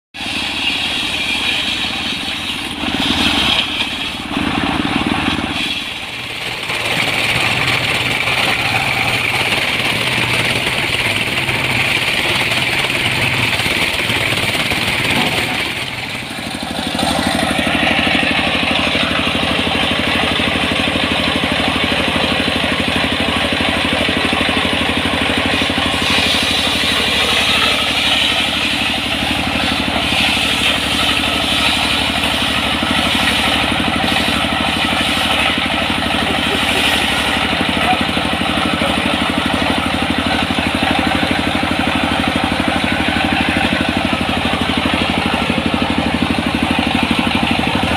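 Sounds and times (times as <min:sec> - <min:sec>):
diesel engine chugging: 0:00.1 - 0:47.9
circular saw cutting log: 0:00.2 - 0:47.9.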